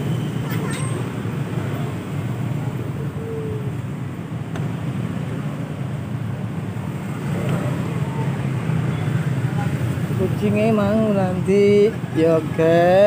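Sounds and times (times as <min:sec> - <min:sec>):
vehicle and road rumble: 0:00.0 - 0:13.0.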